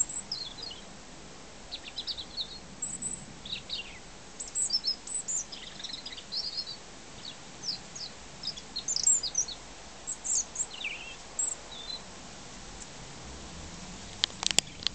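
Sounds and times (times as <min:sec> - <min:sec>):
robin singing: 0:00.0 - 0:01.0, 0:01.6 - 0:14.9.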